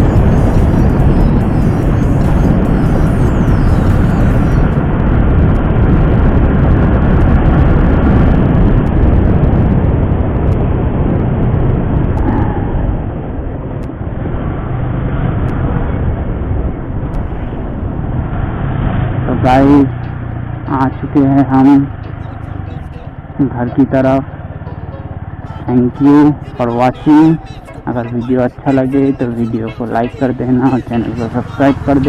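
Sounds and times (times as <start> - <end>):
motorcycle engine riding: 0.0 - 32.0
rush of wind noise: 0.0 - 32.0.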